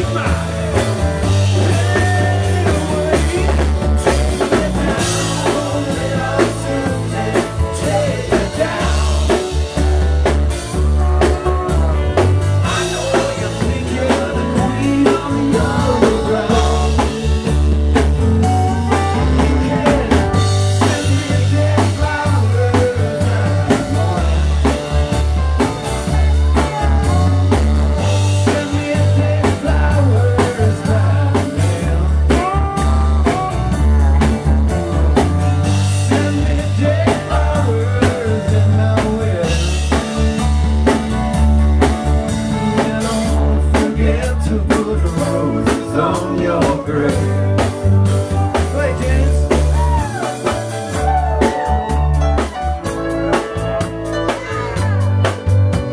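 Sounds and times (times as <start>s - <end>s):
drum kit with cymbal crashes: 0.0s - 44.0s, 44.7s - 55.9s
electric guitar: 0.0s - 55.9s
heavy bass line: 0.0s - 55.9s.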